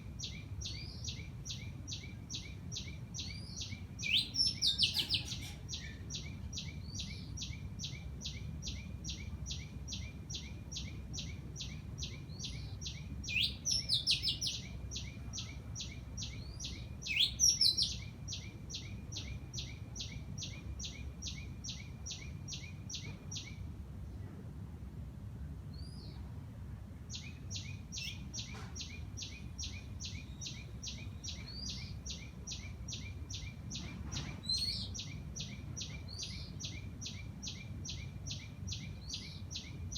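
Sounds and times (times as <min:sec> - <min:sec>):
birds chirping: 0:00.0 - 0:23.7, 0:27.1 - 0:39.9.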